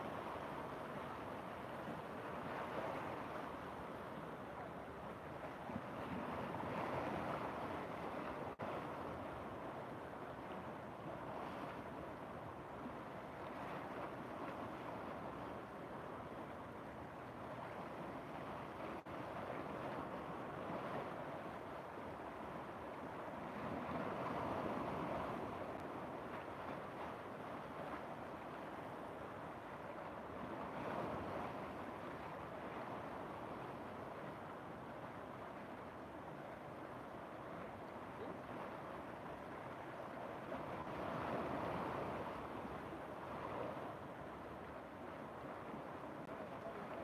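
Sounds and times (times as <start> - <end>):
river rushing and churning: 0.0 - 47.0.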